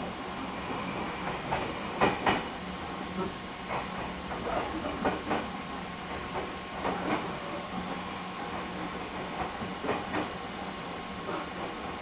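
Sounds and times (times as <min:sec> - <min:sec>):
train interior hum: 0:00.0 - 0:12.0.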